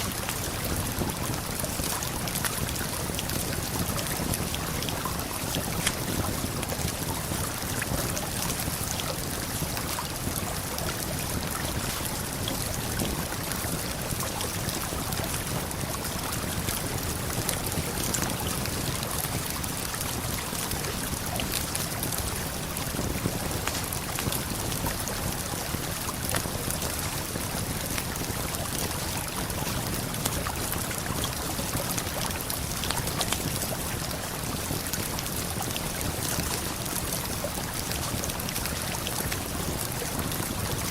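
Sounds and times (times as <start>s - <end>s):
campfire crackling: 0.1s - 40.5s.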